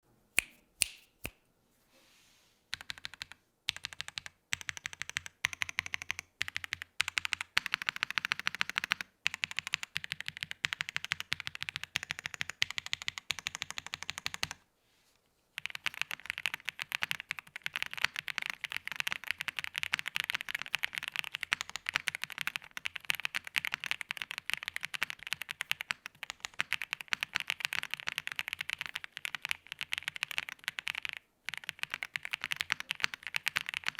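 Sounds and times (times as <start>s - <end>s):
mechanical keyboard typing: 2.7s - 14.6s, 15.6s - 33.9s.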